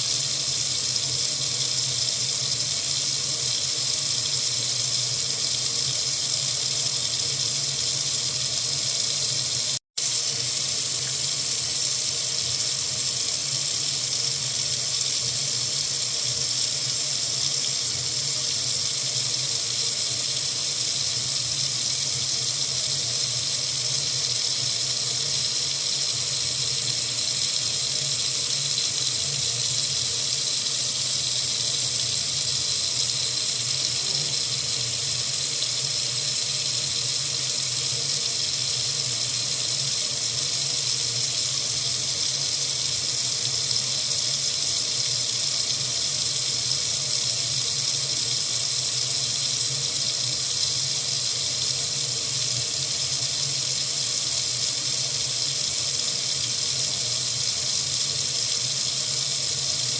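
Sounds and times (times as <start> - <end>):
water running from a faucet: 0.0 - 59.9.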